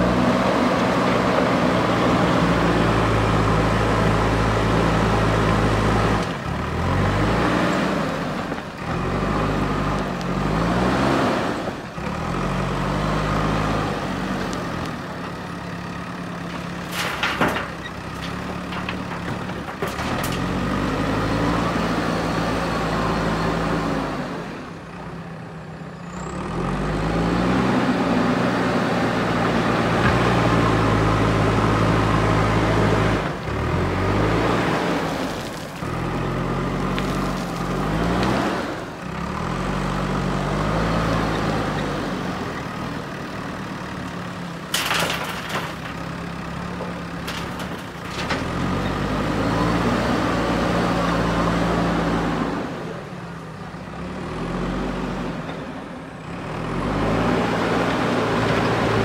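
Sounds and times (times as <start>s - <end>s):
diesel engine revving: 0.0s - 24.9s, 26.1s - 59.0s.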